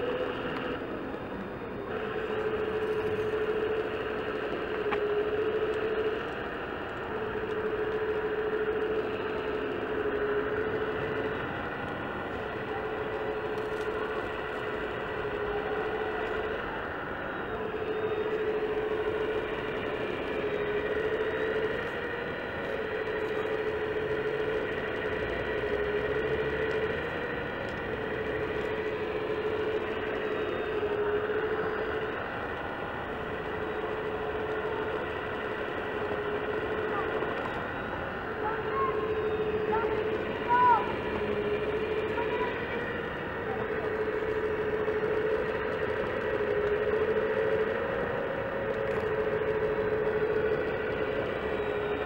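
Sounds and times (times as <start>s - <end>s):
toy excavator electric whine: 0.0s - 52.0s.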